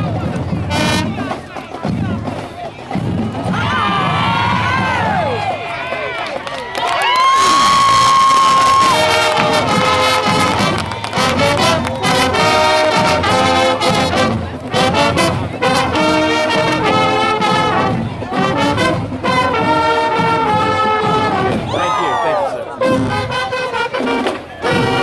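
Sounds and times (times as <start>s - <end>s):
marching band brass playing: 0.0s - 6.4s, 7.2s - 25.0s.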